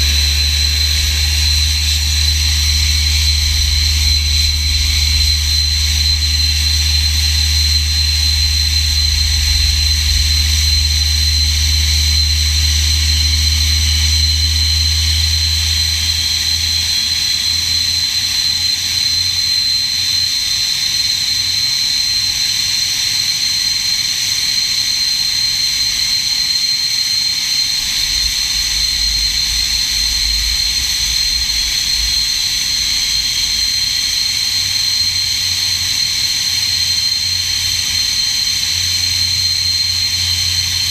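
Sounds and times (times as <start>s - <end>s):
jet engine whining: 0.0s - 40.9s.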